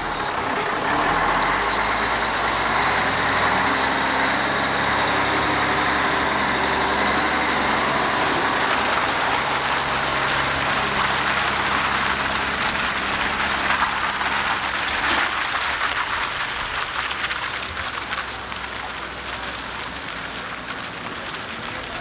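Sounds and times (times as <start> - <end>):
diesel engine hum: 0.0 - 22.0
tyres hissing on wet road: 0.0 - 22.0.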